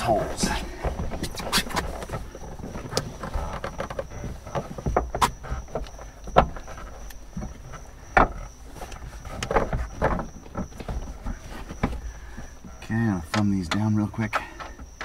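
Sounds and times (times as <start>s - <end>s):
seat panels rustling and scraping: 0.0s - 15.0s
seat frame knocking: 0.7s - 13.5s.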